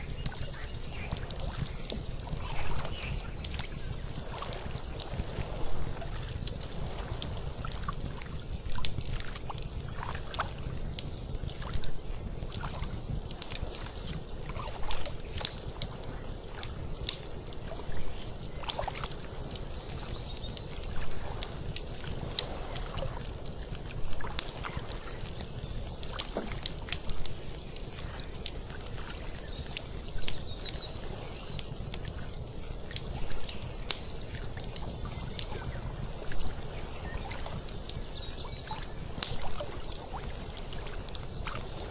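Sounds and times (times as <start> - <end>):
water lapping and sloshing: 0.0 - 41.9
wood fire crackling: 0.0 - 41.9.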